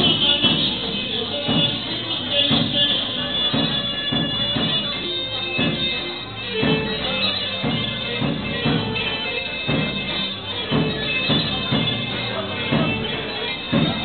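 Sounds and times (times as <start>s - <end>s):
high folk melody: 0.0s - 14.0s
steady drum beat: 0.0s - 14.0s.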